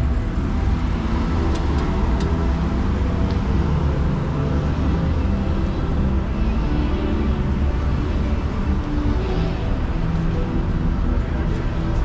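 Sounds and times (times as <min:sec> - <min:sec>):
cars passing: 0:00.0 - 0:12.0.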